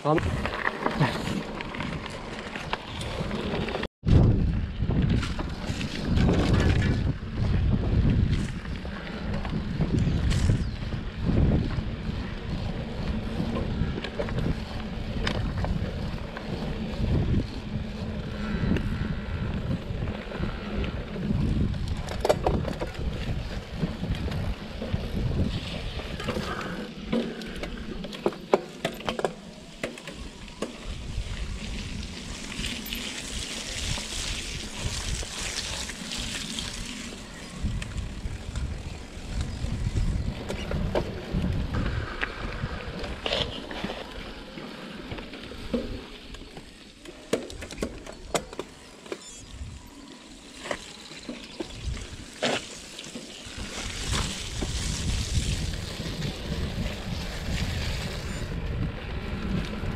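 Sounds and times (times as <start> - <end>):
moving vehicle noise: 0.0 - 59.9
wind rumbling on microphone: 0.1 - 28.0, 30.2 - 46.8, 49.2 - 50.0, 51.4 - 59.9.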